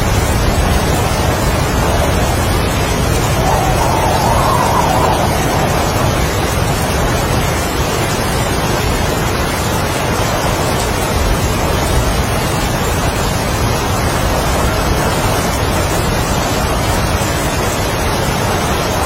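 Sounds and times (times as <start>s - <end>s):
heavy rain: 0.0s - 19.0s
strong wind: 0.0s - 19.0s.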